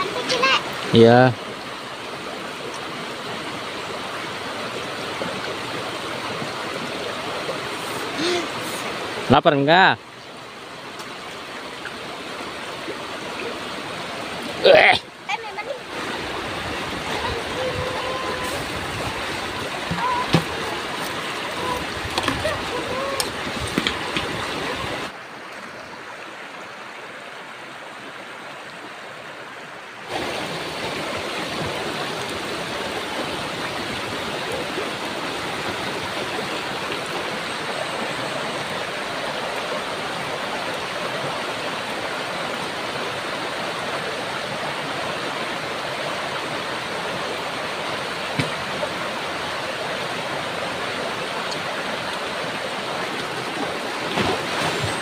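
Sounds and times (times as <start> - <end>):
river rushing over stones: 0.0 - 55.0.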